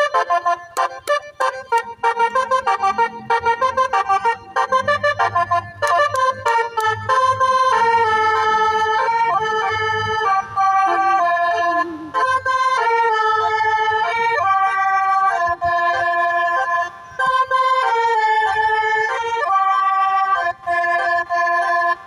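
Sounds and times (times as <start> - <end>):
multi-tone bus horn tune: 0.0 - 22.0.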